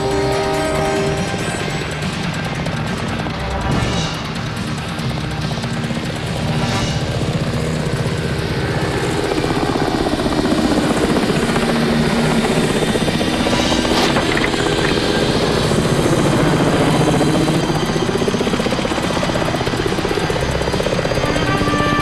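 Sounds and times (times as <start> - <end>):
helicopter engine noise: 0.0 - 22.0
helicopter rotor chopping: 0.0 - 22.0.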